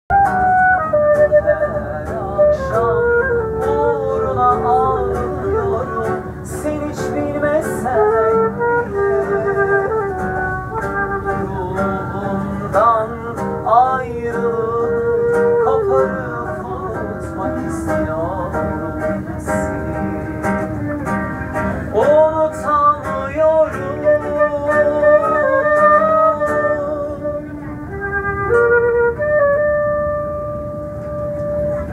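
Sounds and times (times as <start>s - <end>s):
flute playing slow melody: 0.1s - 13.2s, 14.3s - 22.3s, 23.6s - 31.9s.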